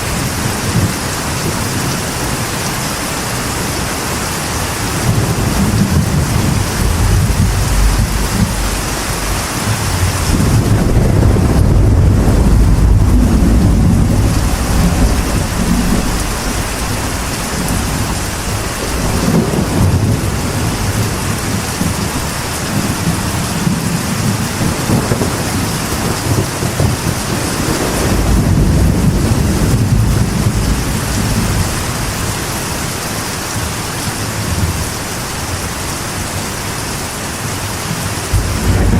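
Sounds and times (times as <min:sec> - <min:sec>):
rolling thunder: 0:00.0 - 0:33.8, 0:37.9 - 0:38.9
rain on a metal roof: 0:00.0 - 0:38.9.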